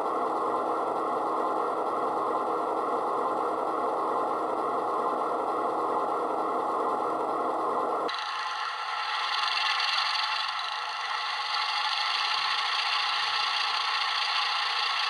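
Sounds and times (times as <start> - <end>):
model diesel locomotive engine: 0.0 - 15.0.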